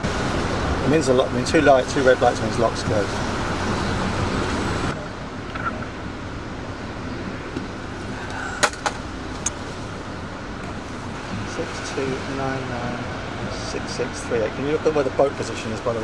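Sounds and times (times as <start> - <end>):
hum of traffic: 0.0 - 16.0.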